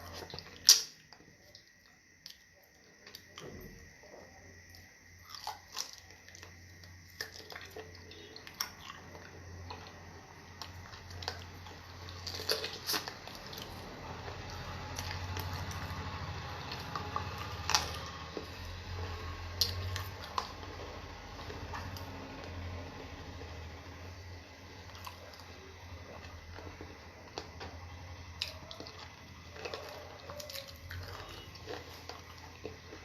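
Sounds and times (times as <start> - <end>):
person chewing: 0.0 - 1.6, 4.7 - 22.6, 24.9 - 33.0.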